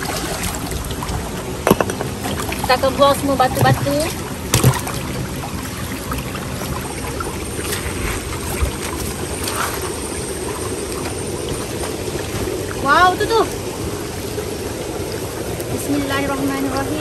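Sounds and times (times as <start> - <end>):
stream water trickling over rocks: 0.0 - 17.0.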